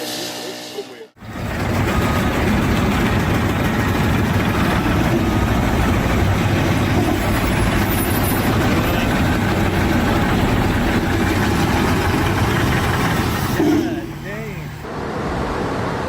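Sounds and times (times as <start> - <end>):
heavy engine rumbling: 1.1 - 16.0.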